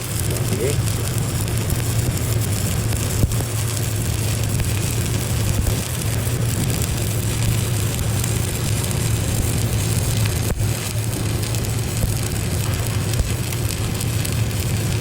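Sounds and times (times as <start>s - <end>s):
low electrical hum: 0.0s - 15.0s
welding arc crackling: 0.0s - 15.0s.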